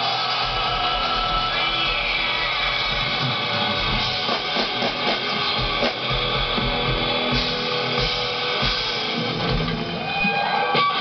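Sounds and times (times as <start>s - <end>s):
steady kick-drum beat: 0.0s - 10.0s
live rock band playing: 0.0s - 11.0s.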